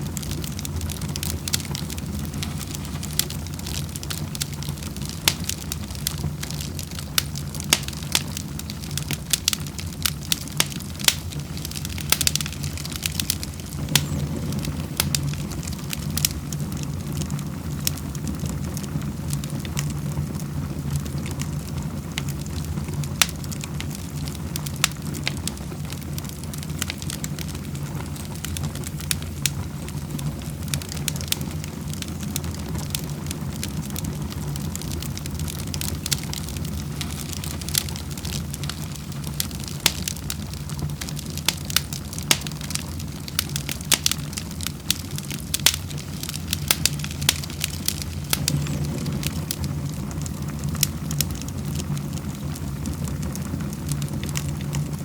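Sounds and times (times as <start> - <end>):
low rumble of fire: 0.0 - 55.0
wood fire pops and snaps: 0.0 - 55.0.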